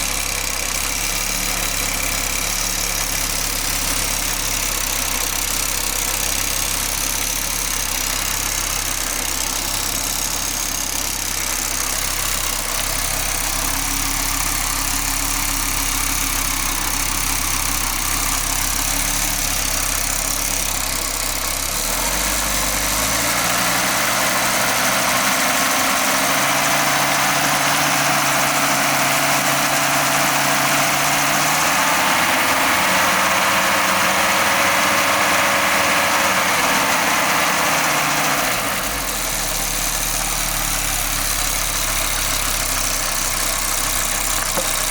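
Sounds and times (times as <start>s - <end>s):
car engine idling: 0.0s - 44.9s
noise from exhaust: 0.0s - 44.9s.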